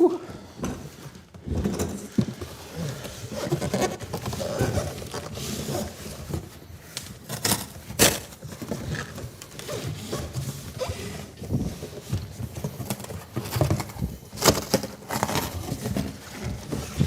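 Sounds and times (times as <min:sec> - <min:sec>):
rustling and scraping of a box: 0:00.5 - 0:17.0.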